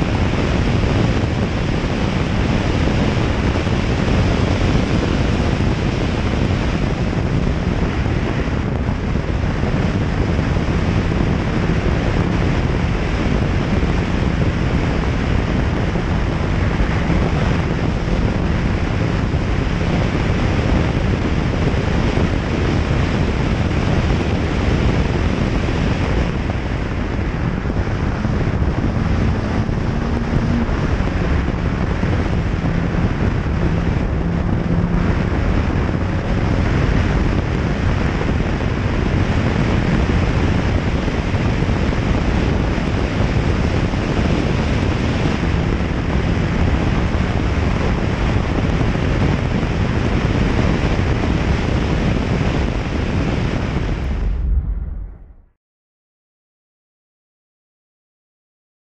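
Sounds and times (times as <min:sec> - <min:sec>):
car engine: 0:00.0 - 0:55.4
wind buffeting microphone: 0:00.0 - 0:55.4.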